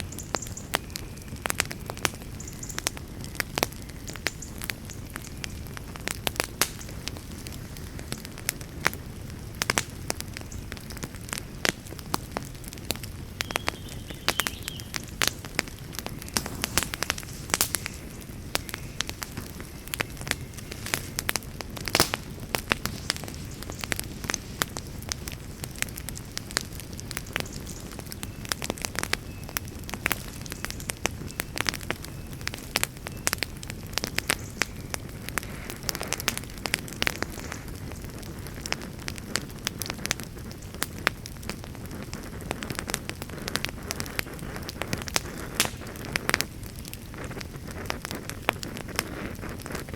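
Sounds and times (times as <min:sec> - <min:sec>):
campfire crackling and popping: 0:00.0 - 0:49.9
low rumble of burning fire: 0:00.0 - 0:49.9.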